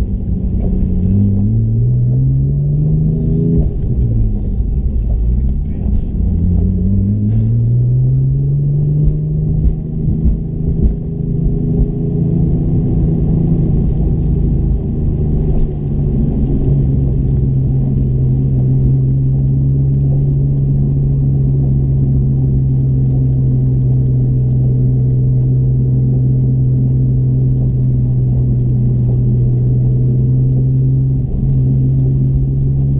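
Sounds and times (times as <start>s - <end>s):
car engine droning: 0.0s - 32.9s.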